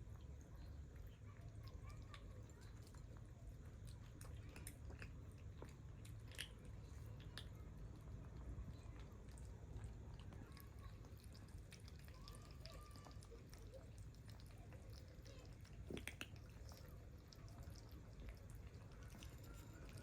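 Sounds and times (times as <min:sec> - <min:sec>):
kittens eating wet clicks: 0:00.0 - 0:20.0.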